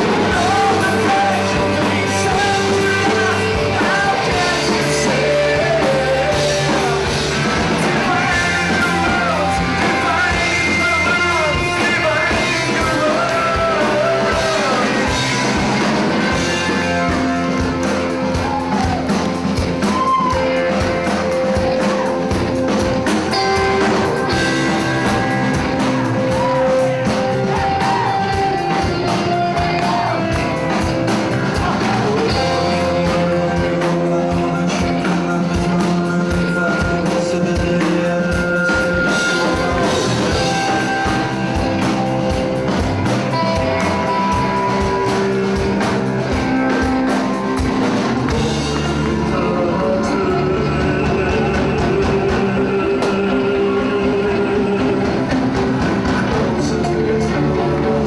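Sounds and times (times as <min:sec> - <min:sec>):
man singing: 0:00.0 - 0:17.7, 0:18.3 - 0:47.2, 0:48.3 - 0:58.0
live rock band playing: 0:00.0 - 0:58.0.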